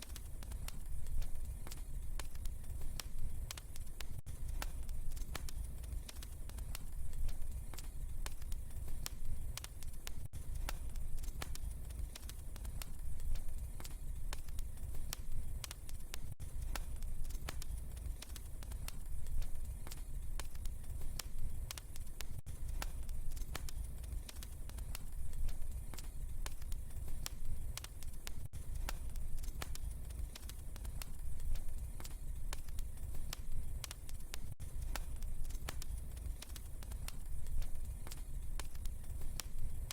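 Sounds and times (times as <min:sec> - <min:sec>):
low rumble of burning: 0:00.0 - 0:39.9
sharp pops and snaps: 0:00.0 - 0:39.9
wood fire crackling: 0:00.0 - 0:39.9.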